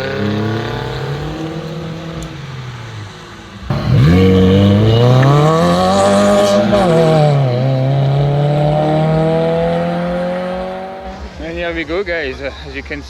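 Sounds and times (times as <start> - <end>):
car engine accelerating: 0.0 - 11.6.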